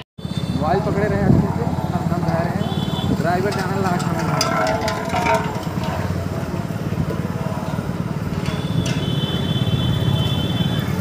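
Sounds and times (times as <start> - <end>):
small motorcycle engine running: 0.2 - 11.0.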